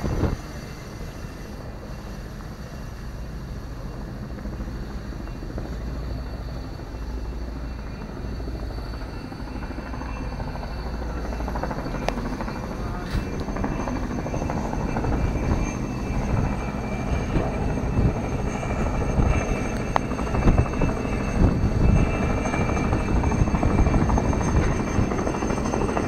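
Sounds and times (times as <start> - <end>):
engine drone with high whine: 0.0 - 26.0.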